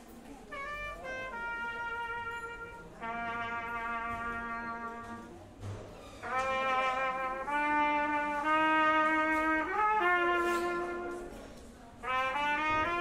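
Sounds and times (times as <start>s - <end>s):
brass instruments long notes: 0.5s - 5.5s, 6.2s - 13.0s.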